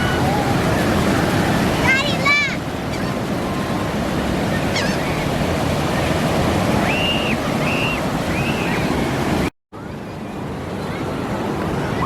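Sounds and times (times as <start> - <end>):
ocean surf washing on shore: 0.0 - 12.0.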